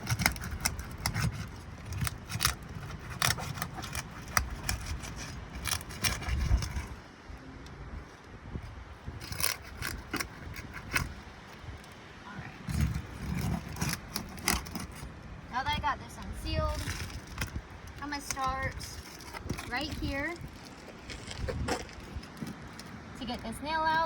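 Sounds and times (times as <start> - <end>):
shingles crackling and tearing: 0.0 - 7.0, 9.1 - 15.9, 16.6 - 24.0.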